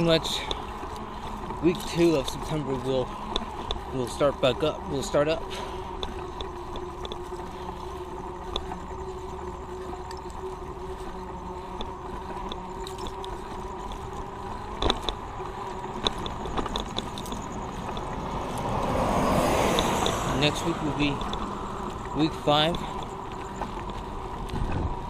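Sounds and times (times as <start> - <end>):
constant hum: 0.0 - 25.0
light ticking clicks: 0.0 - 25.0
road rumble: 0.0 - 25.0
wind: 0.0 - 25.0.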